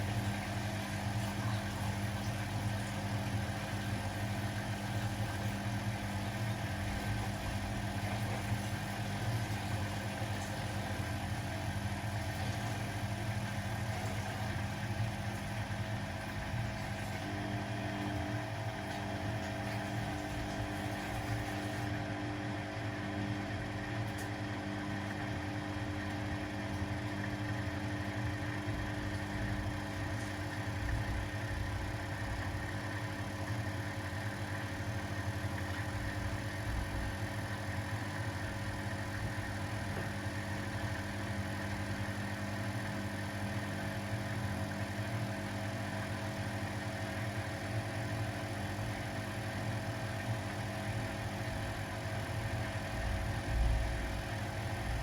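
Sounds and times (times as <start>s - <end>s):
washing machines humming: 0.0s - 55.0s.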